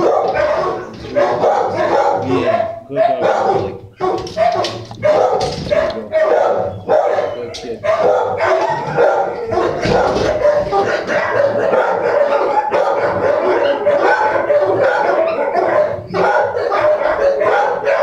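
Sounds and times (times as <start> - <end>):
dogs barking and yelping: 0.0 - 18.0.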